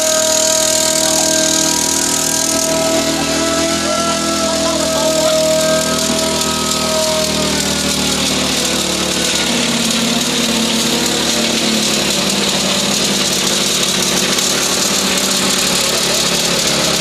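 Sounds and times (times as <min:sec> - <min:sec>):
conveyor rushing hiss: 0:00.0 - 0:17.0
engine hum: 0:00.0 - 0:17.0.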